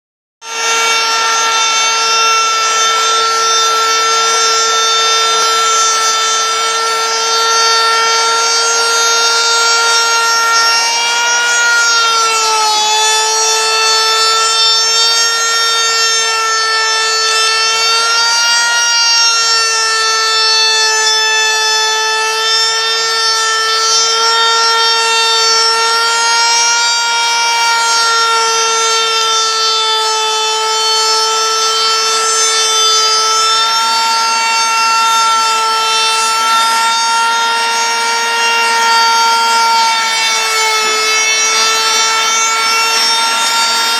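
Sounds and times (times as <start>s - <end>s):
router spindle high-pitched whine: 0.4s - 43.9s
hiss of bit cutting wood: 0.5s - 43.9s.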